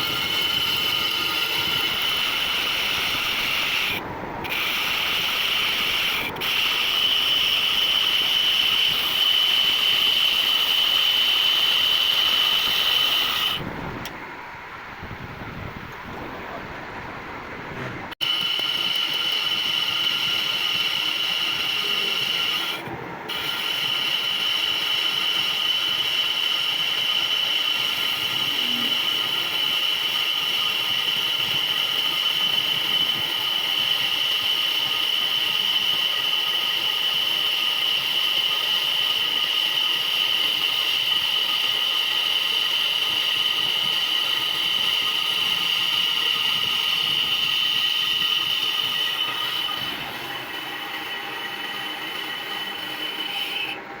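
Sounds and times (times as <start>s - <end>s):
metal lathe squealing: 0.0s - 13.6s, 18.2s - 53.9s.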